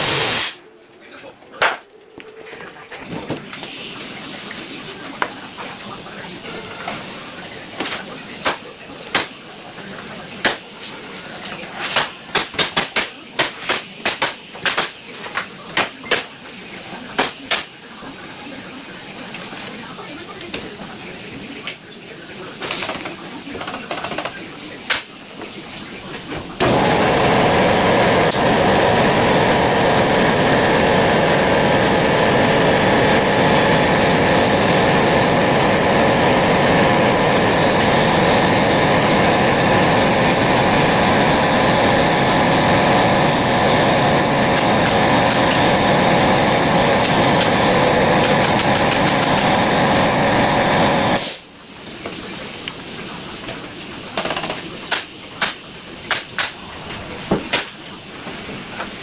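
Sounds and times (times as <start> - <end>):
air compressor running: 0.0 - 0.6, 3.6 - 19.7, 22.4 - 59.0.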